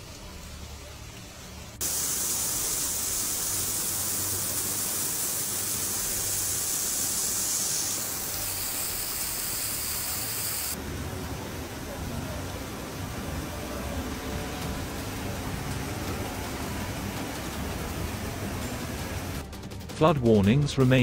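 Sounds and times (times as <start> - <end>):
heavy rain pouring: 1.8 - 19.4.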